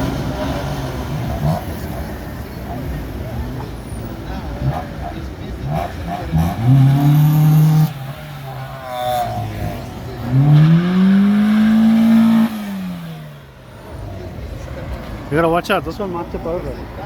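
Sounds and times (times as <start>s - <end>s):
car engine revving: 0.0s - 15.6s.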